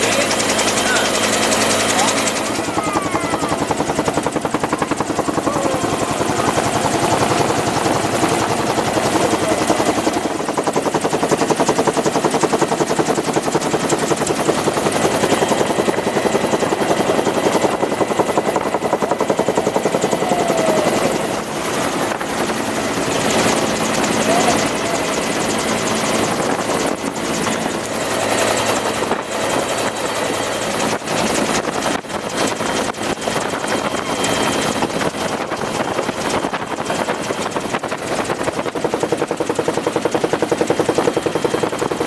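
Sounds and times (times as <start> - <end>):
helicopter engine noise: 0.0 - 42.0
helicopter rotor blades beating: 0.0 - 42.0.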